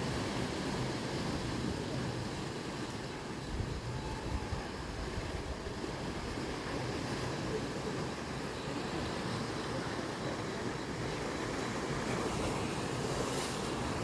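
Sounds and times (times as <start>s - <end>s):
sea waves washing against rocks: 0.0s - 14.0s.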